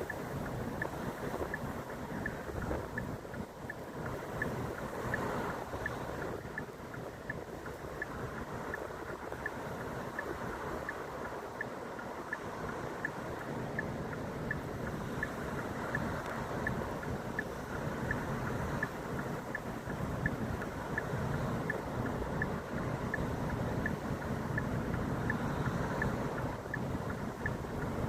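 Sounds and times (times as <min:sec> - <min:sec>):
faint ticking: 0:00.0 - 0:28.0.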